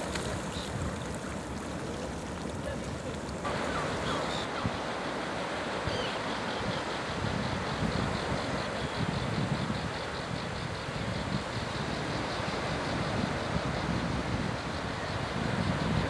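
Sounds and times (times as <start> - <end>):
sea surf rushing: 0.0 - 16.0
wind noise on microphone: 0.0 - 16.0.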